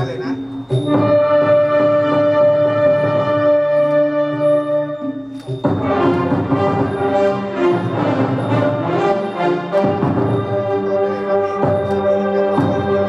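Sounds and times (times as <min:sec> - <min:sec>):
orchestra with brass: 0:00.9 - 0:13.0.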